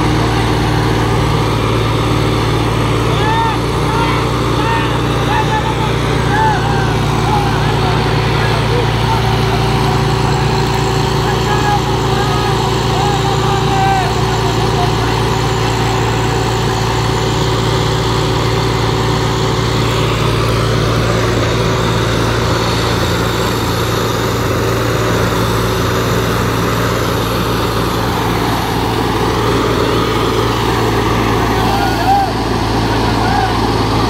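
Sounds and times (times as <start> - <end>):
diesel tractor engines running: 0.0 - 34.0.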